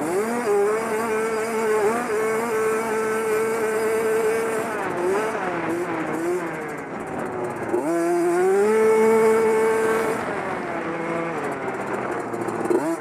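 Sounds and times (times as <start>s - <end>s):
dirt bike engine revving high: 0.0s - 13.0s.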